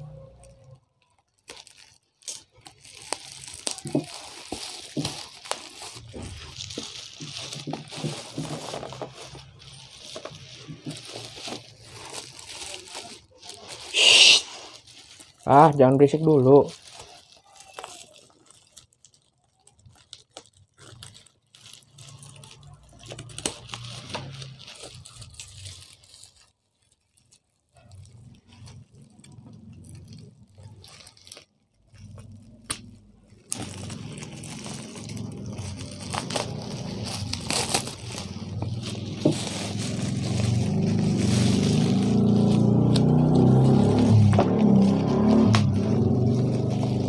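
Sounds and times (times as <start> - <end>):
bubble wrap crinkling: 0.0 - 47.0.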